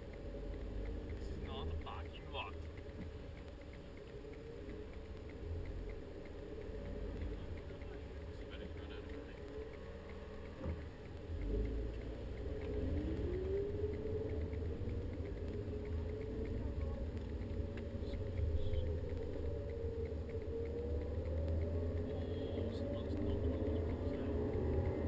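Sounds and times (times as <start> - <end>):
car engine accelerating: 0.0 - 25.0
low road rumble: 0.0 - 25.0.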